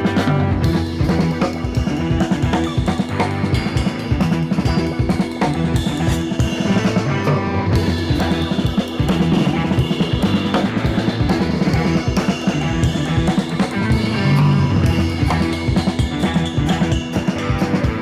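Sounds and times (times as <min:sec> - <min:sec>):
rock music with drums: 0:00.0 - 0:18.0.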